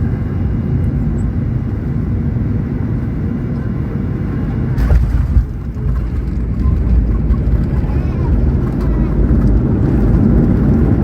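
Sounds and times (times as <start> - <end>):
airplane engines rumbling: 0.0 - 11.0.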